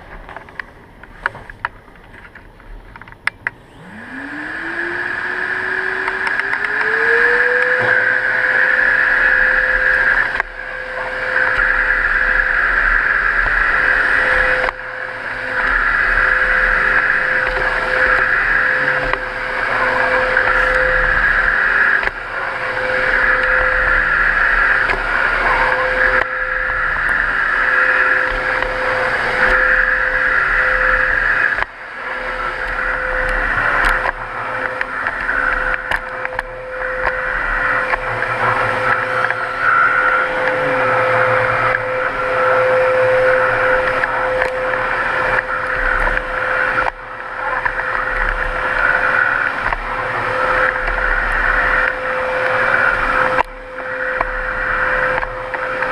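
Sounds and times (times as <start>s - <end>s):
vacuum cleaner whining: 0.0s - 55.9s.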